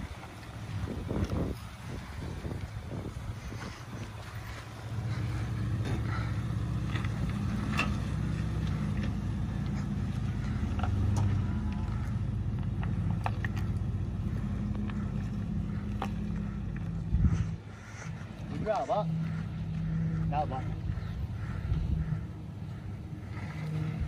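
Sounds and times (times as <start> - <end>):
truck engine under load: 0.0 - 24.0.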